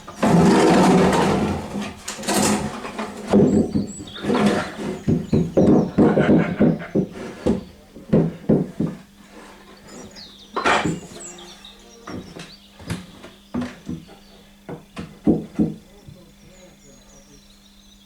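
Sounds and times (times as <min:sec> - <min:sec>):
wooden boards knocking: 0:00.0 - 0:11.4, 0:12.0 - 0:16.4.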